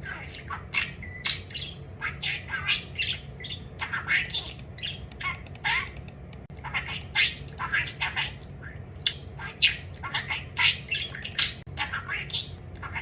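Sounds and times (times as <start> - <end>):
budgerigar chirping and squawking: 0.0 - 8.4, 9.0 - 13.0.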